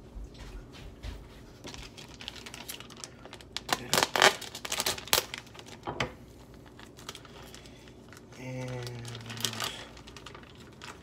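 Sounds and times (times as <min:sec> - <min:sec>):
plastic packaging crinkling: 0:01.6 - 0:11.0.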